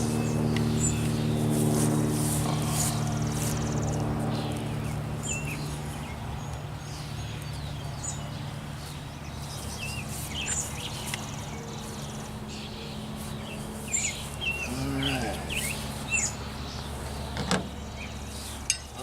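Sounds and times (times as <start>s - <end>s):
birds chirping: 0.0s - 19.0s
honeybees buzzing: 0.0s - 19.0s.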